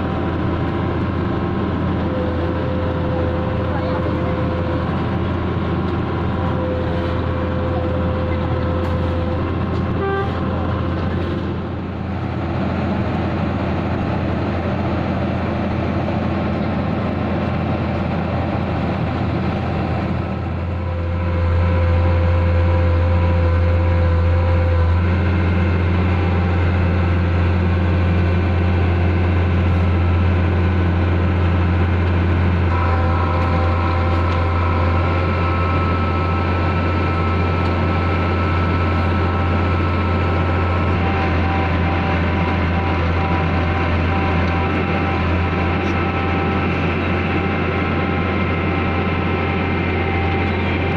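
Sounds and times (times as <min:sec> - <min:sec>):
diesel engine humming: 0:00.0 - 0:50.9.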